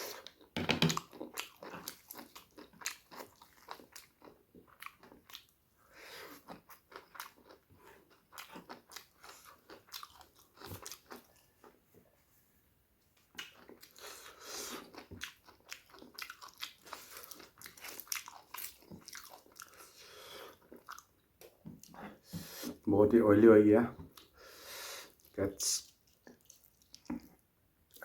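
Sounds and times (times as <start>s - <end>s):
person chewing food: 0.0s - 12.2s, 13.2s - 22.8s, 24.0s - 28.0s.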